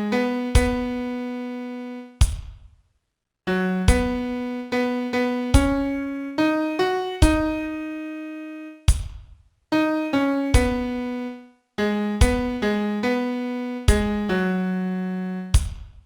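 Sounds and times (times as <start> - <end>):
piano playing melody: 0.0 - 2.2, 3.5 - 8.9, 9.7 - 15.6.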